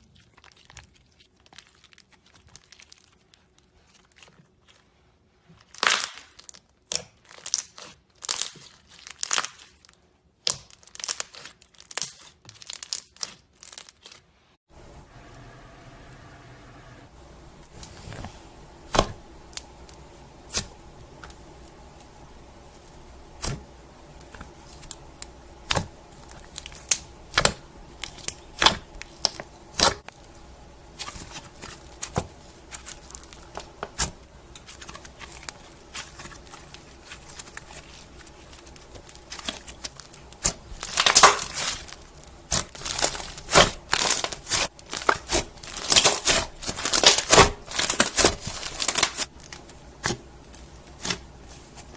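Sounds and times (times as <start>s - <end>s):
slime being squished: 0.0s - 14.2s, 18.8s - 51.9s.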